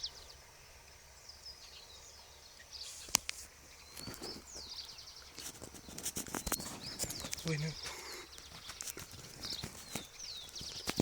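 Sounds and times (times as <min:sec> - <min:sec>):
birds calling: 0:00.0 - 0:11.0
outdoor background noise: 0:00.0 - 0:11.0.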